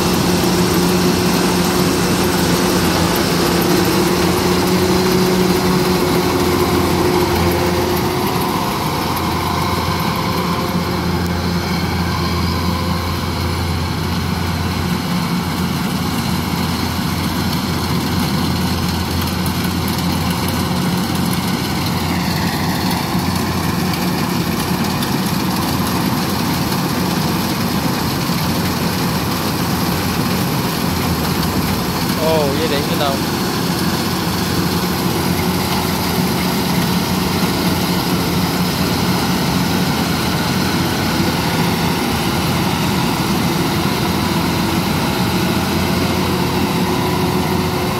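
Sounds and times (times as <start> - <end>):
combine harvester engine hum: 0.0 - 47.9
falling whine: 0.0 - 47.9.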